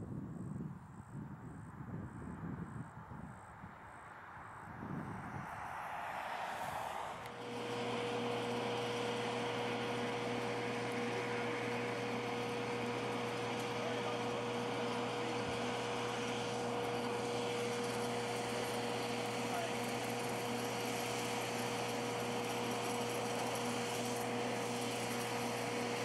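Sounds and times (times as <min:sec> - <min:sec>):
machinery whine: 0:03.9 - 0:26.0.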